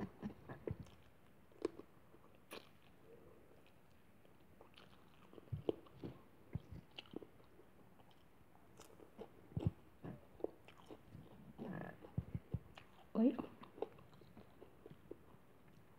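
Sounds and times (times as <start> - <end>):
person chewing food: 0.0 - 15.9.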